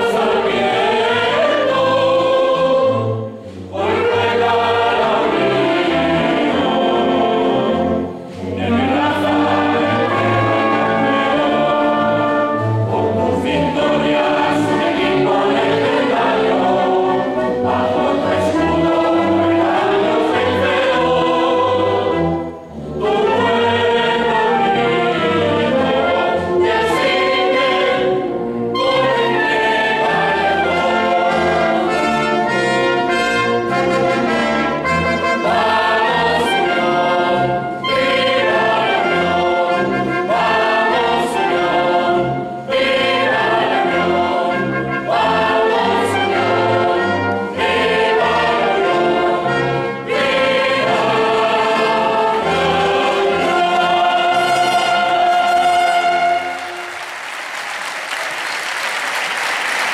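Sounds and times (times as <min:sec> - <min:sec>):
mixed choir singing: 0:00.0 - 0:57.0
wind band playing: 0:00.0 - 0:59.9
trumpets: 0:03.8 - 0:59.9.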